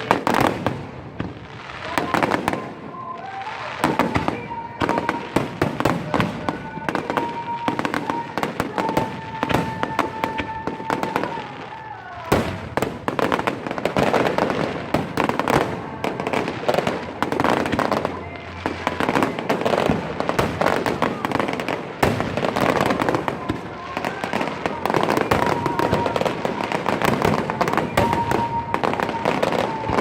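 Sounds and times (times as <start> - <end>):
fireworks crackling and popping: 0.0 - 30.0.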